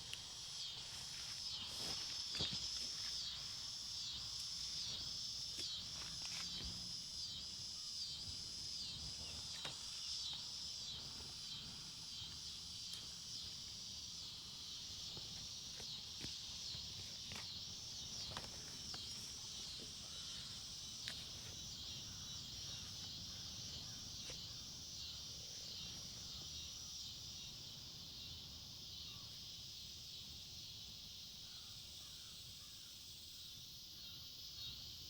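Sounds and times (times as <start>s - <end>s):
chorus of insects: 0.0s - 35.0s.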